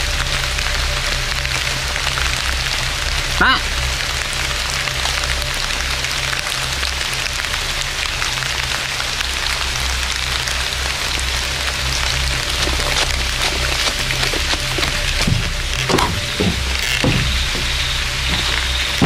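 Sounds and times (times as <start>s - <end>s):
light rain pattering: 0.0s - 19.0s.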